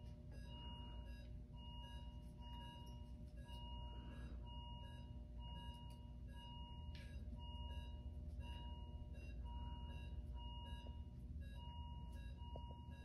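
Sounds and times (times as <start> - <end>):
low room hum: 0.0 - 13.0
patient monitor alarm tone: 0.0 - 13.0.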